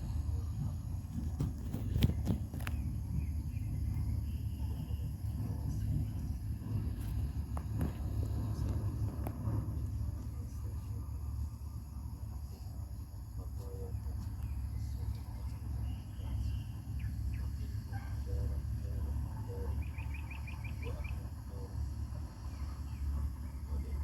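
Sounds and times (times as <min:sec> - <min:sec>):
birds chirping: 0:00.0 - 0:12.1, 0:13.2 - 0:24.0
steady low rumble: 0:00.0 - 0:24.0.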